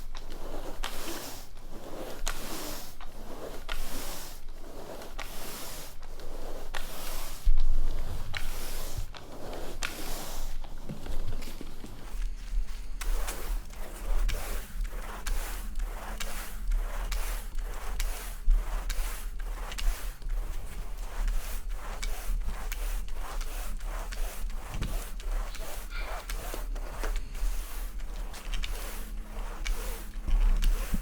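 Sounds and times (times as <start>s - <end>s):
brush scrubbing rug: 0.0s - 31.0s.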